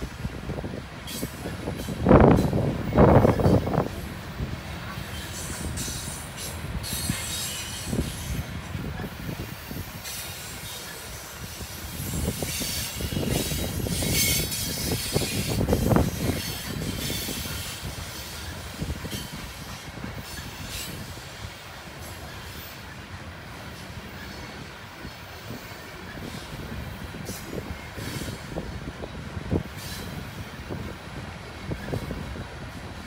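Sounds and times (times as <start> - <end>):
freight train rolling rumble: 0.0 - 33.0
rail clatter: 0.0 - 33.0.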